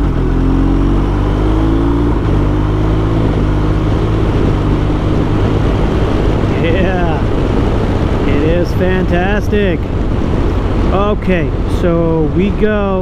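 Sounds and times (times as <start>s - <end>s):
motorcycle engine accelerating: 0.0s - 12.3s.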